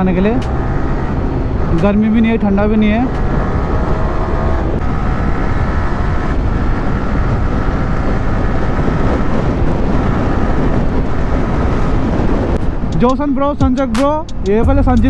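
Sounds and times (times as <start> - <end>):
motorcycle engine cruising: 0.0 - 15.0
wind rush on microphone: 0.0 - 15.0.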